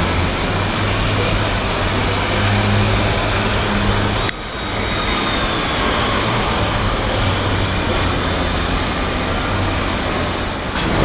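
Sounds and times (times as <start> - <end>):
machinery hiss: 0.0 - 11.0
machinery low hum: 0.0 - 11.0.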